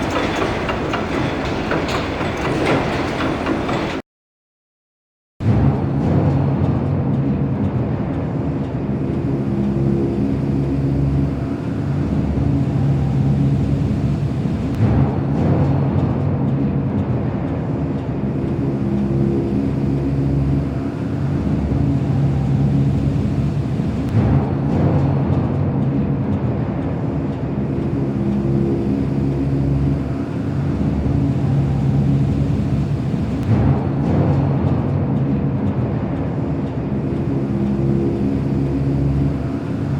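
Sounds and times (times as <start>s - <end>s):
low mechanical drone: 0.0s - 4.0s, 5.4s - 39.9s.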